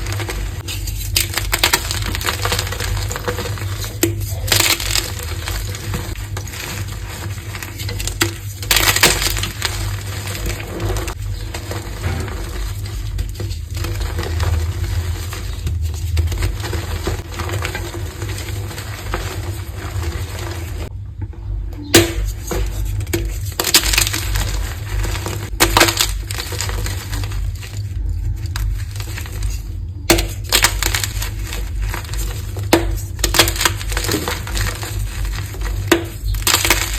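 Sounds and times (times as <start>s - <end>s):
chalk crushed by hand: 0.0s - 20.9s, 22.0s - 36.9s.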